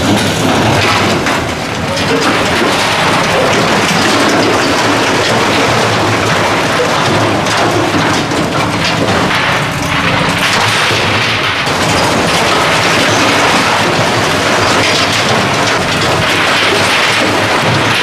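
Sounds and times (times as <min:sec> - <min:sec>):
rubble crashing down: 0:00.0 - 0:18.0.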